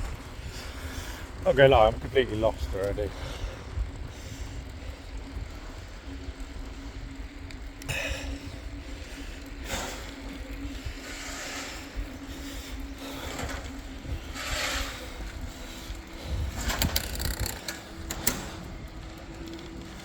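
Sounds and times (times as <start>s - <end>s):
bicycle freewheel ticking: 0.0s - 20.0s
wind rumble on microphone: 0.0s - 20.0s.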